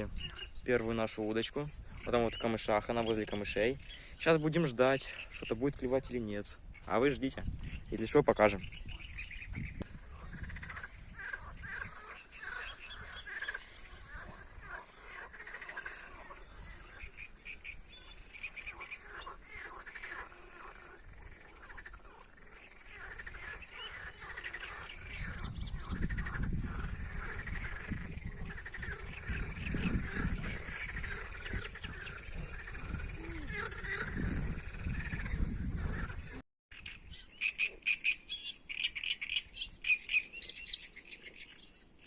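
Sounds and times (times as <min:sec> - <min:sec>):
frogs croaking: 0:00.0 - 0:42.0.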